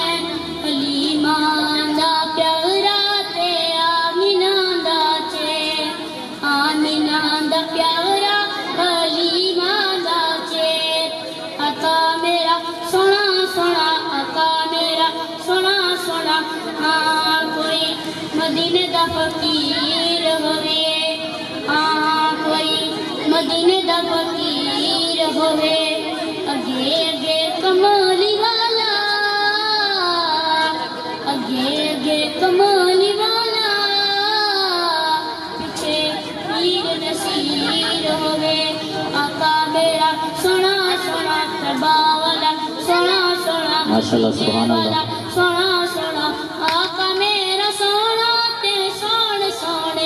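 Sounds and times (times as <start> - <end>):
boy singing into a microphone: 0.0 - 50.0.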